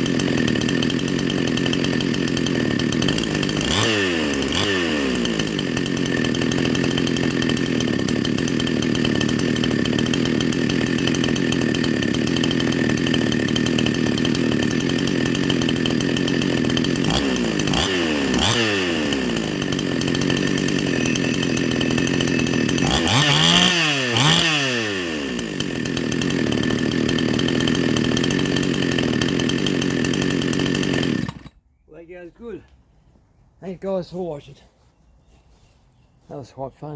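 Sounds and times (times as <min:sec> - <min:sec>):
chainsaw idling and revving: 0:00.0 - 0:31.6.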